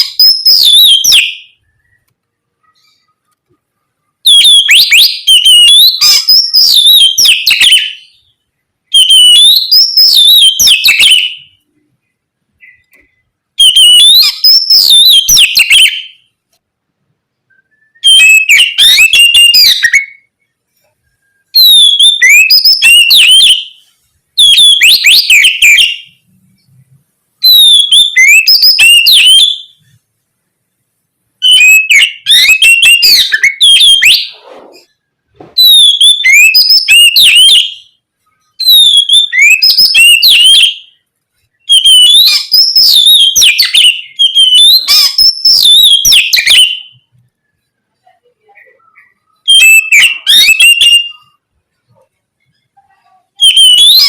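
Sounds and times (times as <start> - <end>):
bird singing whistled notes: 0.0 - 3.4, 4.2 - 16.4, 17.4 - 29.9, 31.4 - 35.0, 35.6 - 47.8, 48.6 - 51.6, 53.4 - 54.0.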